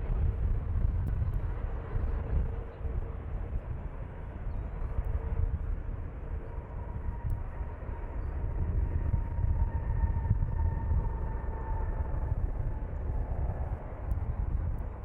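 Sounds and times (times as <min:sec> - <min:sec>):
faint engine whine: 0:00.0 - 0:15.0.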